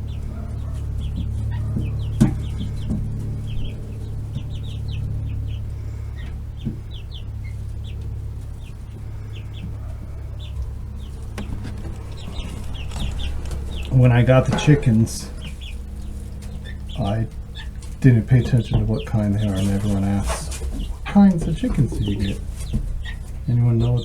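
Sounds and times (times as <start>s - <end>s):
chicks peeping: 0.0s - 24.0s
steady low hum: 0.0s - 24.0s.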